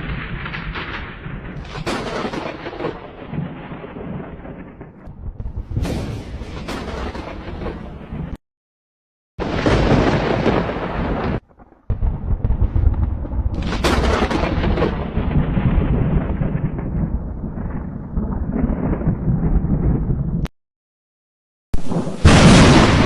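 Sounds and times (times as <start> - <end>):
thunder crack and rolling rumble: 0.0 - 8.4, 9.4 - 20.5, 21.8 - 23.0
thunder crash: 0.0 - 8.4, 9.4 - 20.5, 21.8 - 23.0.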